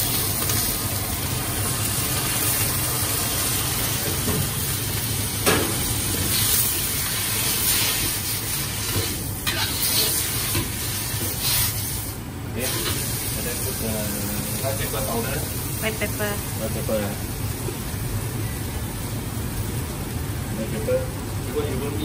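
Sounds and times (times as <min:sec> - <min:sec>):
noodles sizzling in a wok: 0:00.0 - 0:20.2
gas burner roaring: 0:00.0 - 0:22.0.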